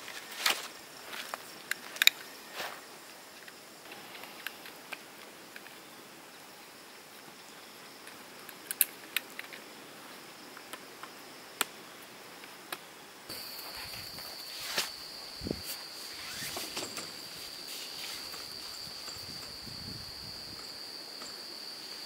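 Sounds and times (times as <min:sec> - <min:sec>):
insect trill: 0:00.0 - 0:22.0.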